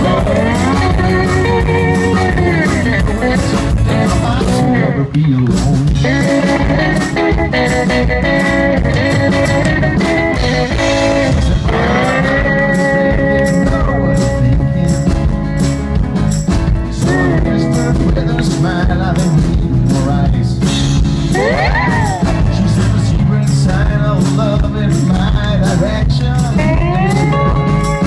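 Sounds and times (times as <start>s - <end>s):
electric guitar: 0.0s - 28.0s
rock band playing: 0.0s - 28.0s.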